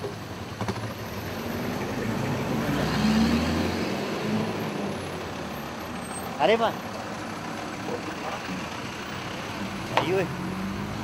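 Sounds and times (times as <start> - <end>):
motor vehicle passing by: 1.0 - 6.4, 7.0 - 11.0.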